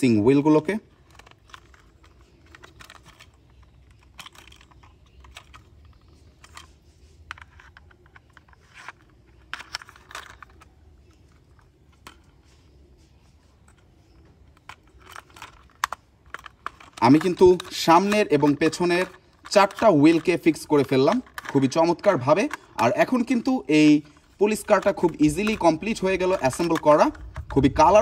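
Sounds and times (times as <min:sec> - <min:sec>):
plastic toy wheels clicking: 0:00.8 - 0:06.7, 0:07.3 - 0:12.3, 0:14.4 - 0:23.6, 0:24.2 - 0:28.0.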